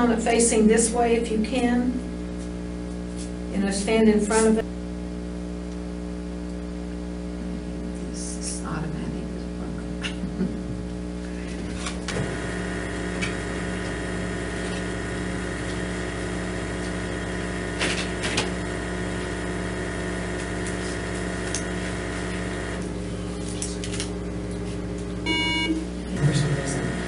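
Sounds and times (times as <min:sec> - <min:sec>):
electrical hum and machine drone: 0:00.0 - 0:27.0.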